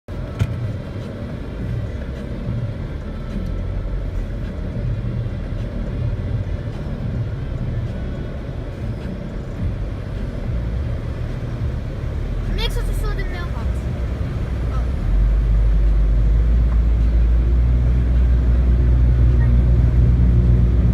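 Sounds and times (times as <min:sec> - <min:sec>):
engine droning: 0:00.1 - 0:20.9
vehicle driving through water: 0:00.1 - 0:20.9.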